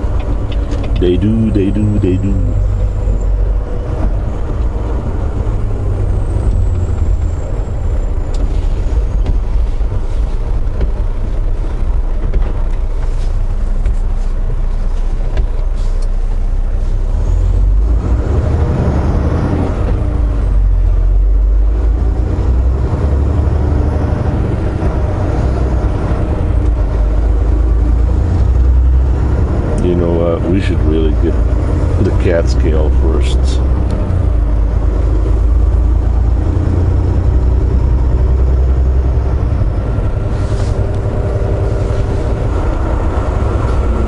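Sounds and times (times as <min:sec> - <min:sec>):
truck diesel engine rumble: 0:00.0 - 0:44.0.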